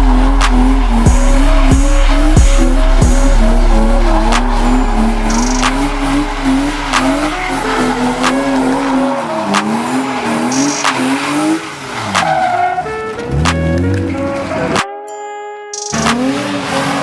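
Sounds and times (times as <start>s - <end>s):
car engine revving: 0.0s - 14.8s, 15.9s - 17.0s
tyres squealing: 0.0s - 14.9s.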